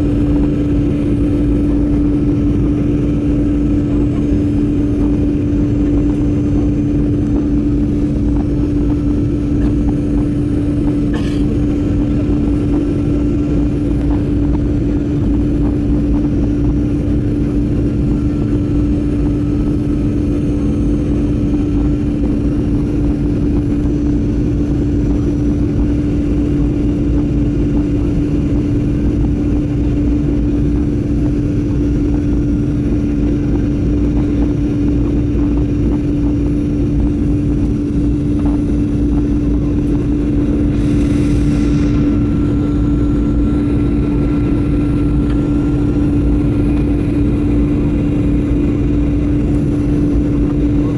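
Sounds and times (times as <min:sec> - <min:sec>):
airliner cabin noise: 0:00.0 - 0:50.9.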